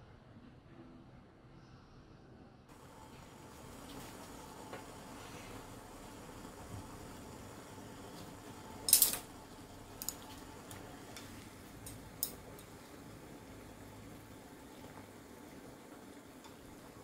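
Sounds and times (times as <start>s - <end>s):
water boiling in pot: 2.7s - 17.0s.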